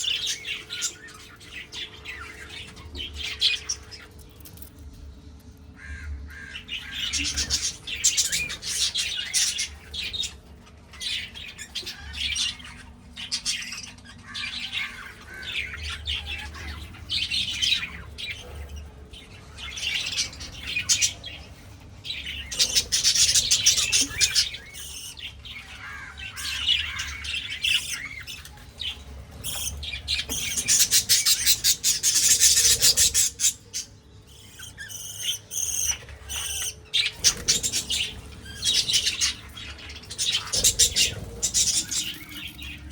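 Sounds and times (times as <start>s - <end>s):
parrots chattering and squawking: 5.7s - 42.9s.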